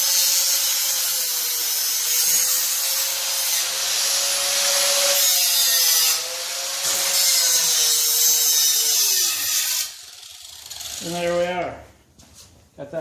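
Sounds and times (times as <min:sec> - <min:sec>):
angle grinder cutting steel: 0:00.0 - 0:11.4.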